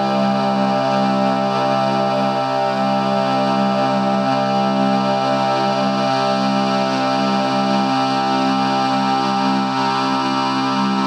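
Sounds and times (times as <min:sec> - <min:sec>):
synthesizer drone: 0:00.0 - 0:11.0.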